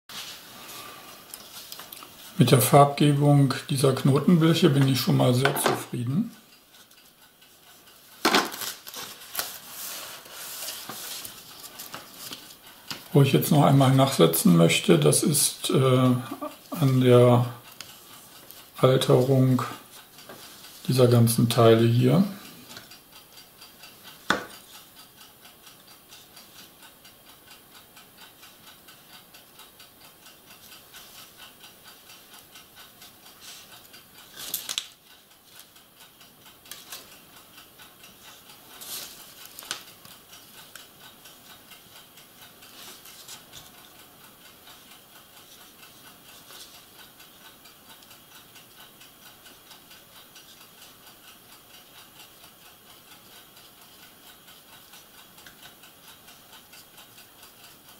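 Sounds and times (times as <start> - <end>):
clock ticking: 1.2 - 57.9.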